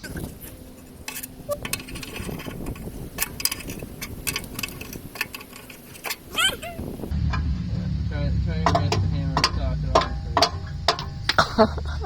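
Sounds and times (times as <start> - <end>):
hand tools clinking on metal: 0.0 - 7.5, 8.6 - 12.0.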